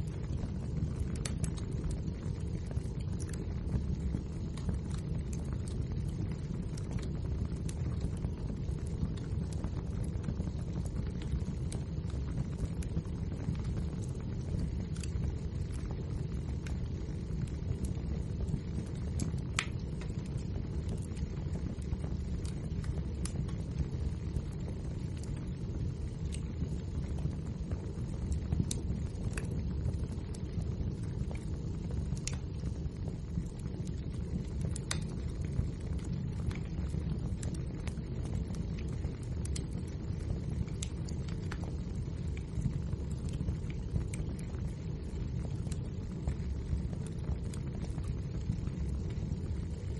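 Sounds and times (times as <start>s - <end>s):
logs crackling and popping: 0.0s - 49.9s
wood fire burning: 0.0s - 49.9s.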